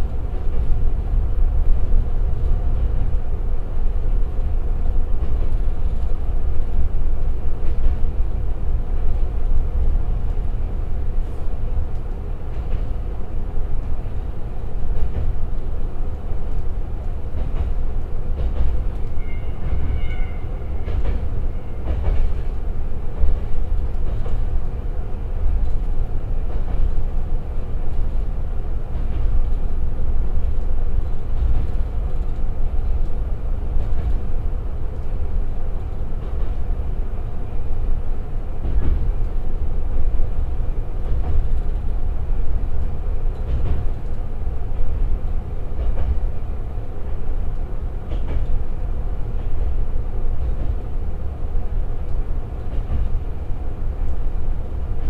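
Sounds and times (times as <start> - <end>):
rail joint clicks: 0.0 - 55.0
wheels rumbling on rail: 0.0 - 55.0.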